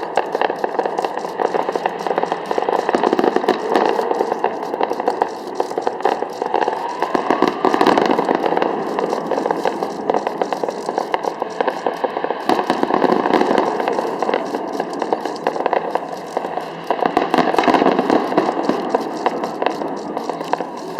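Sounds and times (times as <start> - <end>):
fireworks crackling: 0.0 - 20.9.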